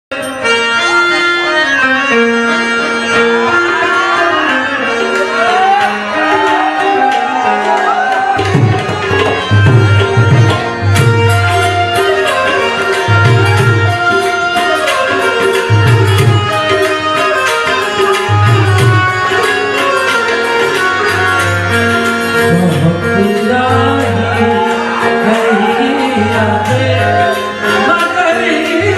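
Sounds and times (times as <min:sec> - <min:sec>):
banjo folk melody: 0:00.1 - 0:28.9
hand drum beat: 0:05.2 - 0:28.9.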